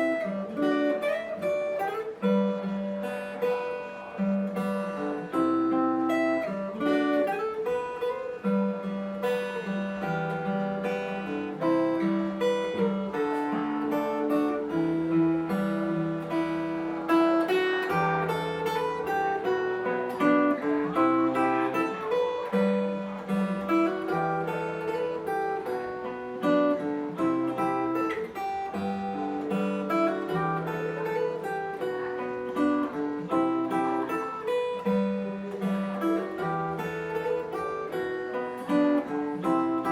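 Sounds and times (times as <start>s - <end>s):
fingerstyle acoustic guitar: 0.0s - 39.9s.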